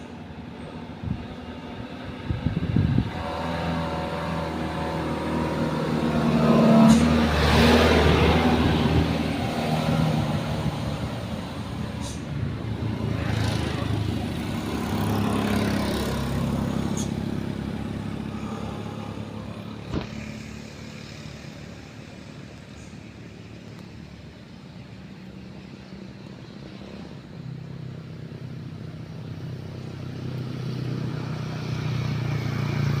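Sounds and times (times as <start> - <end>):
traffic passing by: 0.0 - 33.0.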